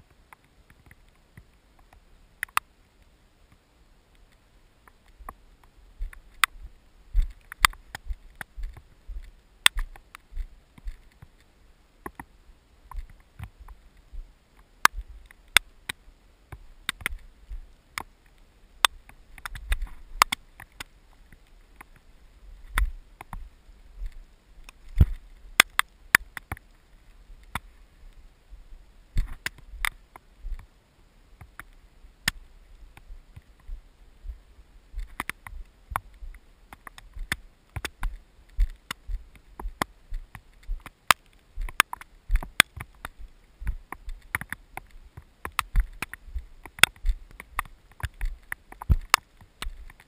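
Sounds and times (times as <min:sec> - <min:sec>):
raindrops ticking on camera: 0:00.0 - 0:50.0.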